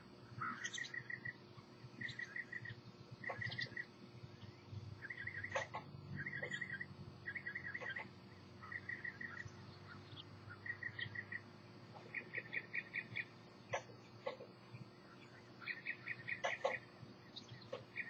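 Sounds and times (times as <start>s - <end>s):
insect pulsed trills: 0.0s - 18.0s
steady low hum: 0.0s - 18.0s.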